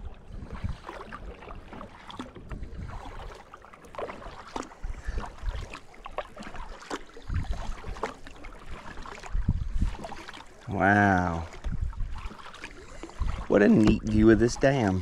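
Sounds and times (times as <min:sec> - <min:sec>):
paddle strokes splashing water: 0:00.0 - 0:15.0.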